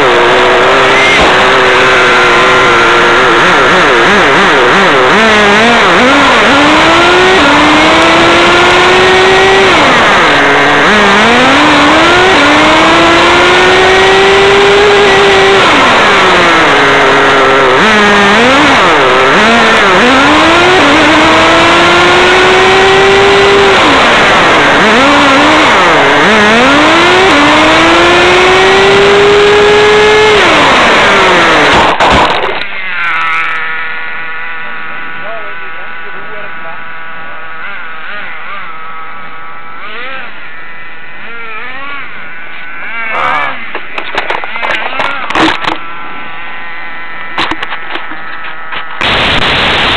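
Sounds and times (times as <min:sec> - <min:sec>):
rc car motor revving: 0:00.0 - 0:49.9
steady buzzing hum: 0:00.0 - 0:49.9.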